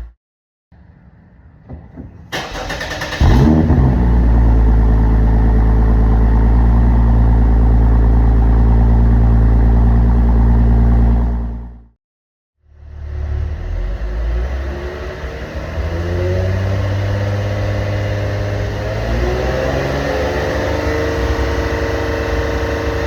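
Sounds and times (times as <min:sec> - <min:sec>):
car engine starting and idling: 0:02.3 - 0:11.8, 0:13.2 - 0:23.0.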